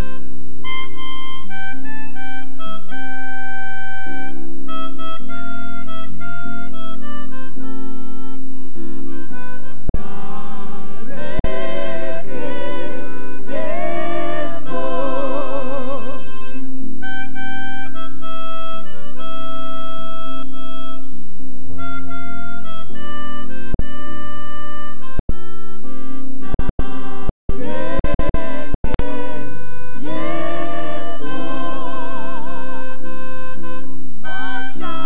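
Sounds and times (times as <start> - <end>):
backing music with bass line: 0.0 - 35.0
harmonica melody: 0.0 - 35.0.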